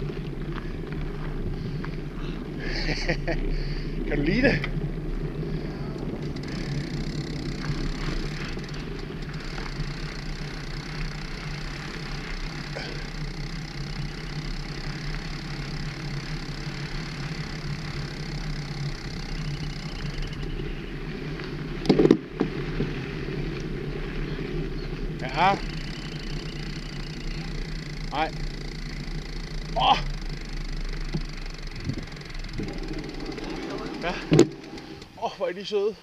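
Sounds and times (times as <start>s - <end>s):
bicycle tyres rolling on gravel: 0.0s - 36.0s.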